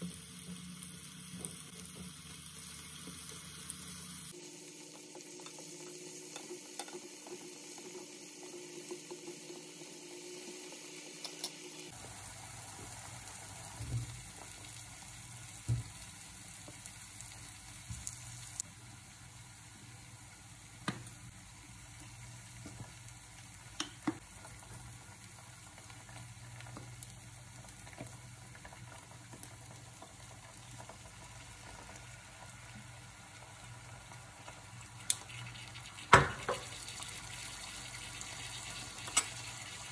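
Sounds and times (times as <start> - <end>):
mushrooms sizzling in a pan: 0.0 - 39.9.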